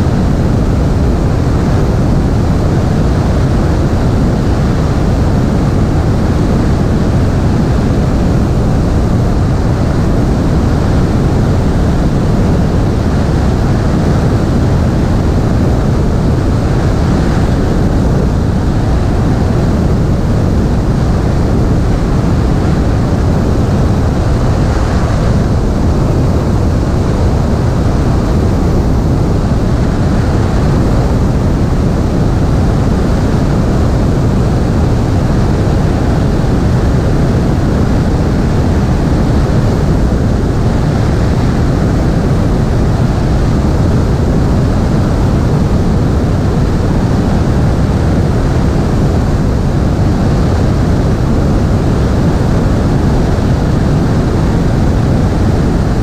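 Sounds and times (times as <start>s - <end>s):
aircraft engine and propeller: 0.0s - 56.0s
airflow rushing over camera: 0.0s - 56.0s.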